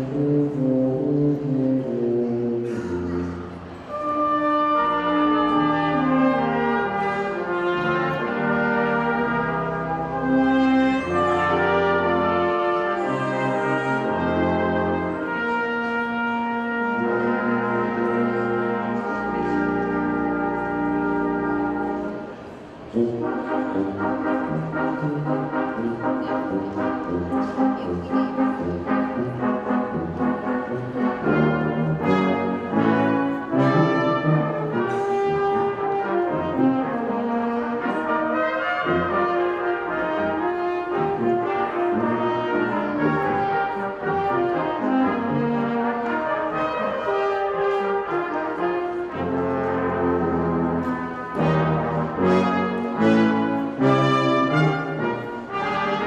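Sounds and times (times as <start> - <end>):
brass ensemble playing: 0.0 - 56.0.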